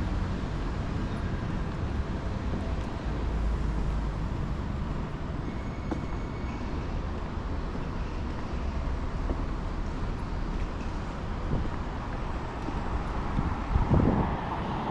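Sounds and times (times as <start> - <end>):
low rumble of passing vehicles: 0.0 - 14.9.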